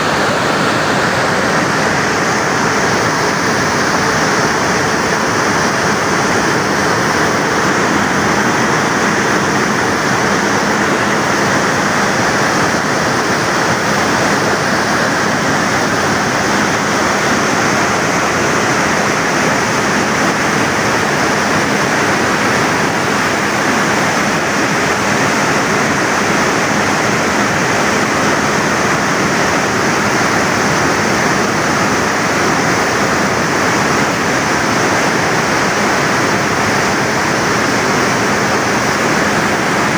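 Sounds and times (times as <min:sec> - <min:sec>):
loud rushing falling water: 0:00.0 - 0:39.9.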